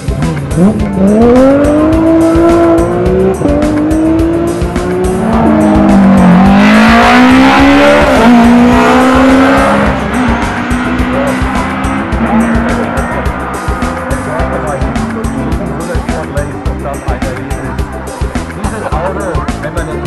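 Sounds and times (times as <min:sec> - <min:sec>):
rally car engine at full throttle: 0:00.0 - 0:20.0.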